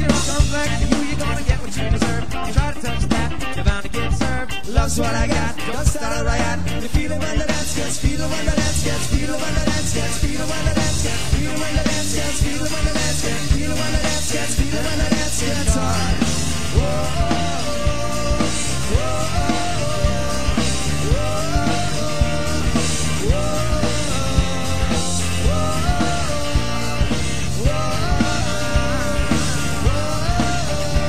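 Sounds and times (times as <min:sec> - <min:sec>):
rock music: 0:00.0 - 0:31.0.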